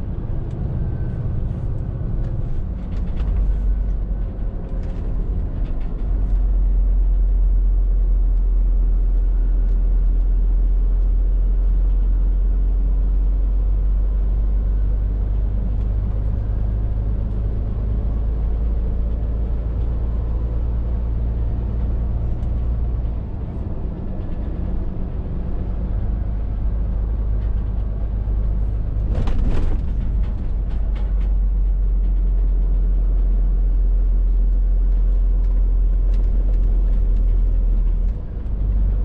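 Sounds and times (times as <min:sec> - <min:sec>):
lorry diesel engine drone: 0:00.0 - 0:39.0.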